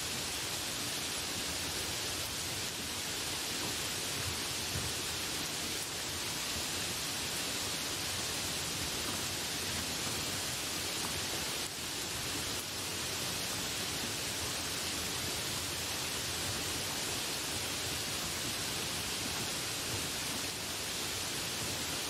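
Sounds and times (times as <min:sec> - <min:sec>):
rain hissing: 0:00.0 - 0:22.0.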